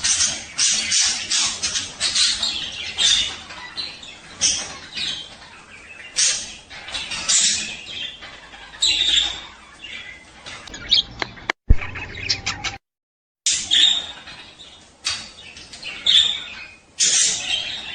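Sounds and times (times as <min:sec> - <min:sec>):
budgerigars chirping: 0:00.0 - 0:12.8, 0:13.5 - 0:17.9.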